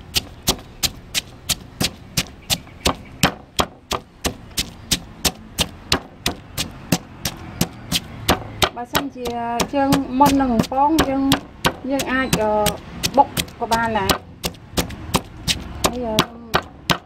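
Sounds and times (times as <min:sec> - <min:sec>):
pestle pounding in a mortar: 0:00.0 - 0:17.0.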